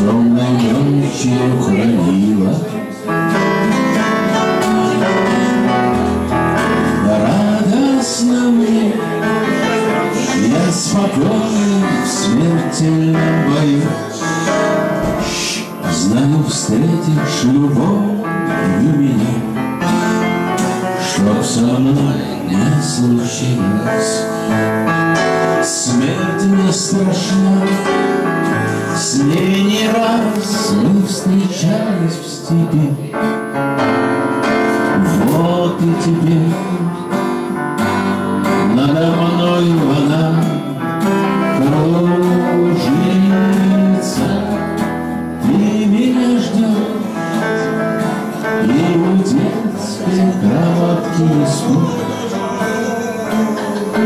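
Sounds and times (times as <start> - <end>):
acoustic guitar: 0.0 - 54.0
electronic keyboard: 0.0 - 54.0.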